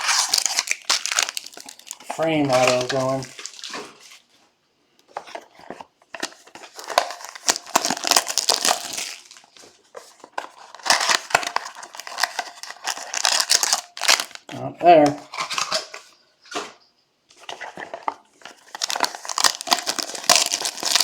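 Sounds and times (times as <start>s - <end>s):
packaging crinkling and tearing: 0.0s - 4.3s, 5.3s - 16.6s, 17.5s - 21.0s.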